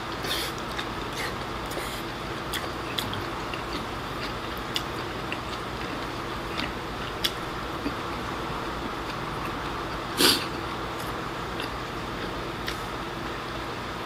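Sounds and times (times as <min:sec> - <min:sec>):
quiet chewing: 0:00.1 - 0:12.9.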